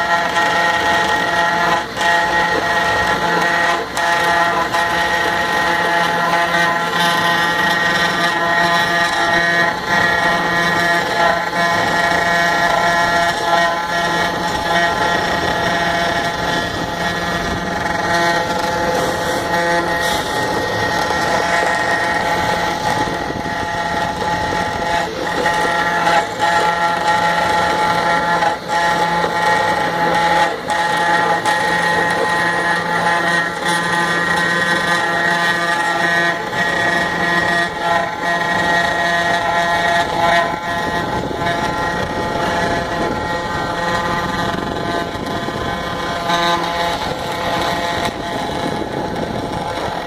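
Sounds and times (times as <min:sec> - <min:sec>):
router spindle whining: 0:00.0 - 0:50.0.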